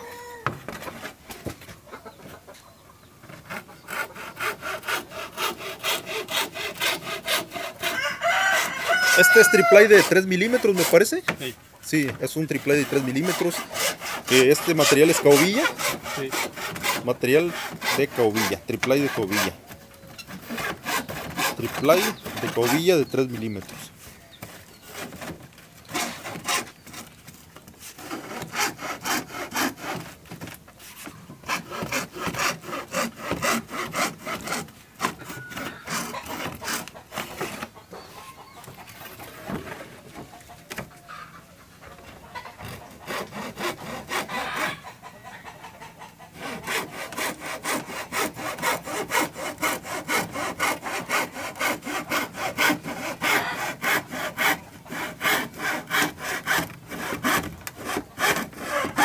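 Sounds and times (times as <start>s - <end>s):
hacksaw cutting plywood: 3.3s - 27.1s, 27.8s - 37.8s, 42.5s - 44.9s, 46.3s - 59.0s.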